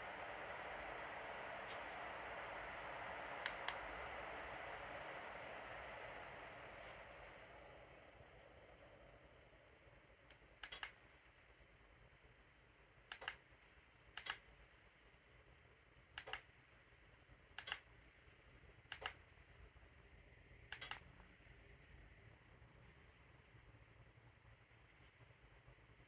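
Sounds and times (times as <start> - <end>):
room hiss: 0.0 - 26.0.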